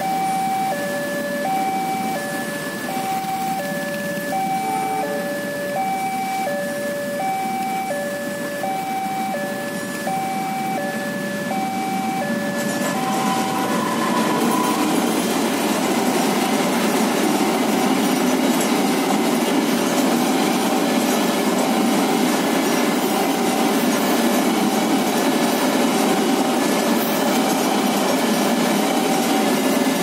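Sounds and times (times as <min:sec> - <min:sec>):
crossing warning alarm tones: 0:00.0 - 0:30.0
train wheels rumbling on rails: 0:00.0 - 0:30.0.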